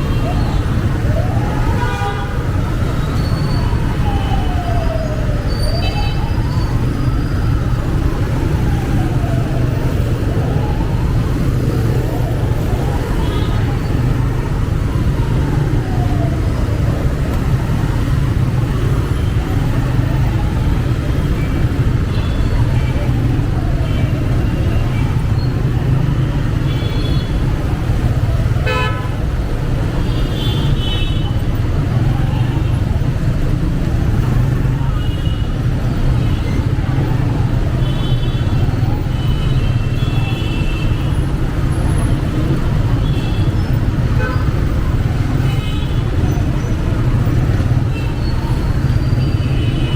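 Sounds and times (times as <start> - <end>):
surrounding traffic: 0.0 - 49.9
wind and road noise: 0.0 - 49.9.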